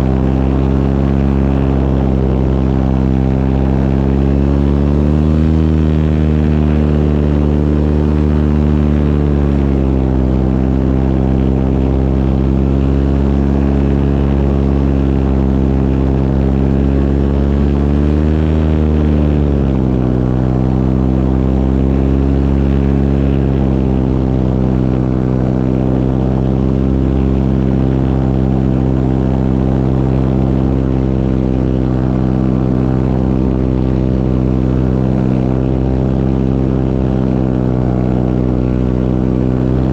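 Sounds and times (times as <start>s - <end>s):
propeller engine running: 0.0s - 39.9s.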